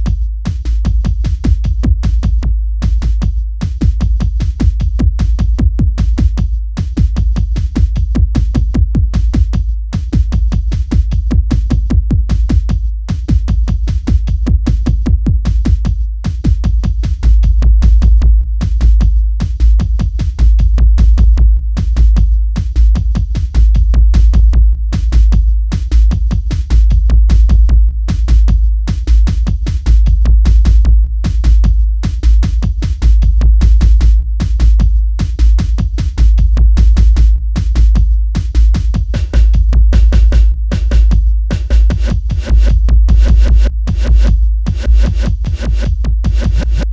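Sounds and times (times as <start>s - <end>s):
drum machine beat: 0.0s - 46.9s
heavy deep bass: 0.0s - 46.9s.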